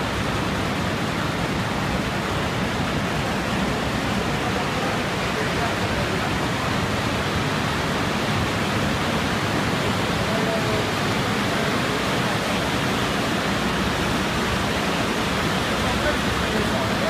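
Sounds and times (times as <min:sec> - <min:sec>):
production line machine noise: 0:00.0 - 0:17.0.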